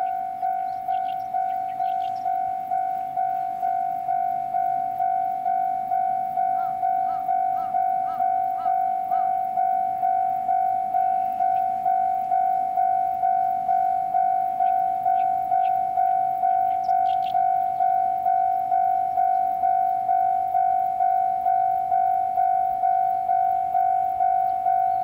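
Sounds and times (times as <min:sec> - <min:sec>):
level crossing bell ringing: 0:00.0 - 0:25.0.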